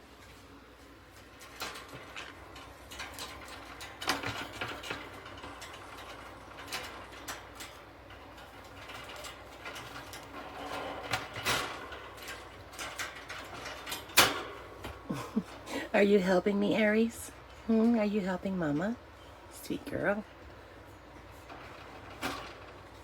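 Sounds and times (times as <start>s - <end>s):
metal bird cage rattling: 1.1s - 23.0s.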